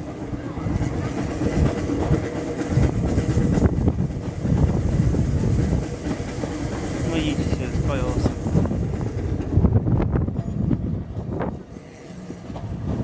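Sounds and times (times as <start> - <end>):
train carriage running on track: 0.0 - 13.0
wheels clicking on rails: 0.0 - 13.0.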